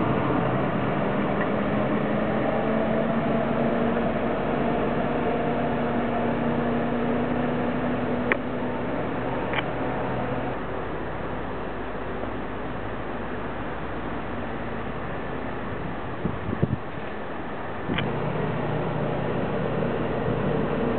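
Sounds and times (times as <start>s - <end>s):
jeep engine running: 0.0s - 20.9s.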